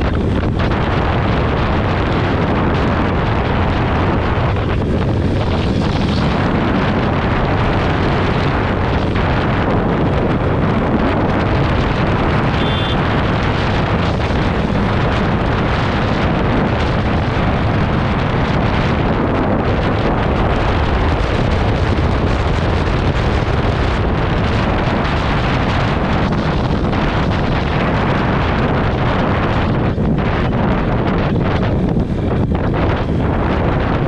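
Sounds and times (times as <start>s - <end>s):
motorcycle running: 0.0s - 34.0s
wind buffeting the microphone: 0.0s - 34.0s.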